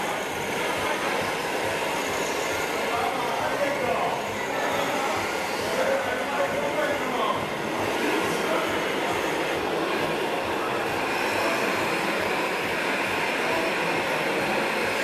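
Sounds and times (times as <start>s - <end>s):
model trucks running: 0.0s - 15.0s.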